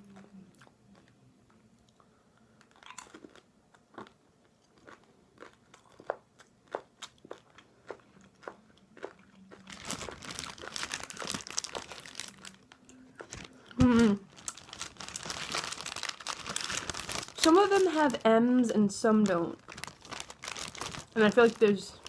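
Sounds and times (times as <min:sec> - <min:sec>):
crinkling: 0:00.9 - 0:18.3, 0:19.0 - 0:22.0
crunching candy: 0:02.6 - 0:18.2, 0:19.2 - 0:22.0.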